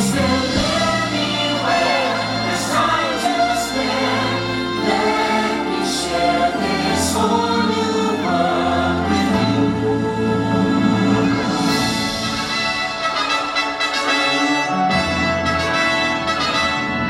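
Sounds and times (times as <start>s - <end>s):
choir singing held notes: 0.0s - 17.0s
orchestral music: 0.0s - 17.0s.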